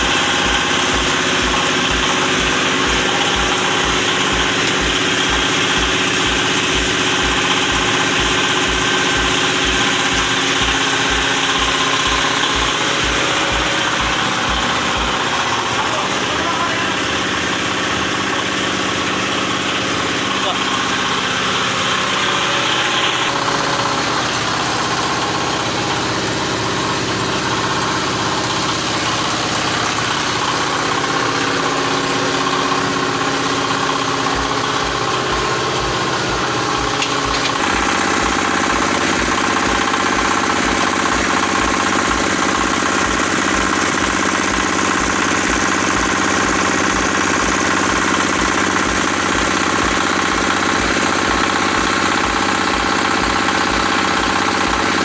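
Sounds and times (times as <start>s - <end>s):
low regular pulsing: 0.0s - 54.9s
diesel engine running: 0.0s - 55.0s.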